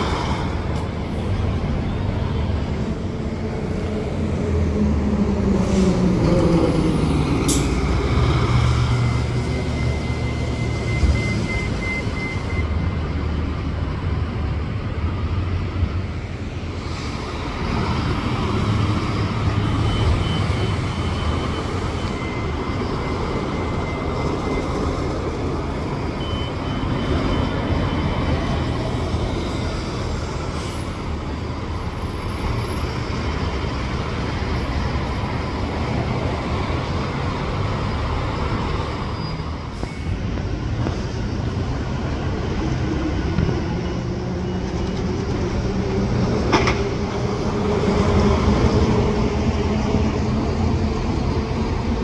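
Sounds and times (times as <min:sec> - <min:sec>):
buses and traffic passing: 0:00.0 - 0:52.0.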